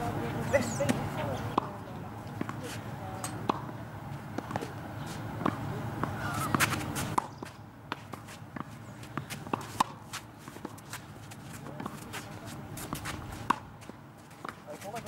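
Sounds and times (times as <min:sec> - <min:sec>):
rackets striking tennis ball: 0:00.6 - 0:01.7, 0:02.3 - 0:15.0
tennis ball bouncing on court: 0:00.6 - 0:12.2, 0:12.8 - 0:15.0.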